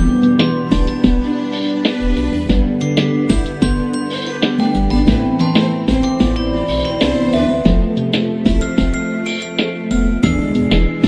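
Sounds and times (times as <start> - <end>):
instrumental music with chiming notes: 0.0 - 11.0.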